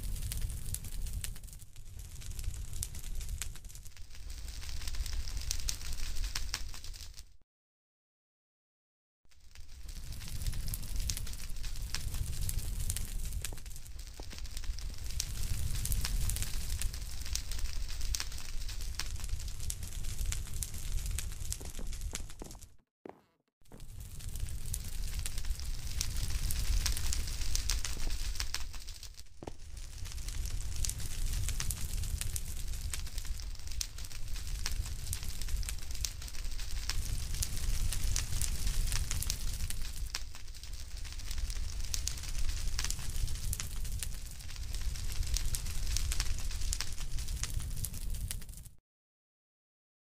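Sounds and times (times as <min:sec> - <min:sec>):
fire crackling: 0:00.0 - 0:07.4, 0:09.3 - 0:48.8.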